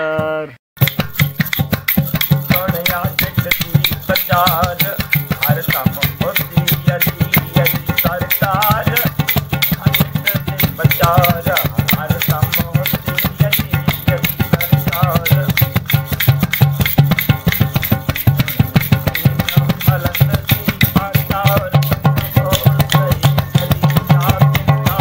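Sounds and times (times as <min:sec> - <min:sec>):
rattling hand percussion: 0:00.8 - 0:25.0
man singing folk song: 0:02.2 - 0:16.2, 0:18.3 - 0:25.0.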